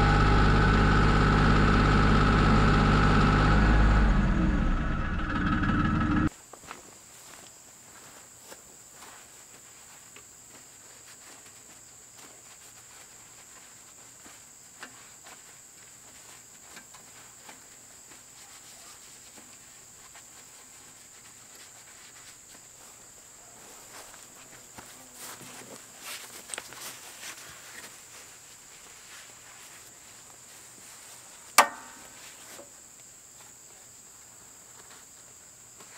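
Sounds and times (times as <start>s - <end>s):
insects droning: 4.1s - 35.9s.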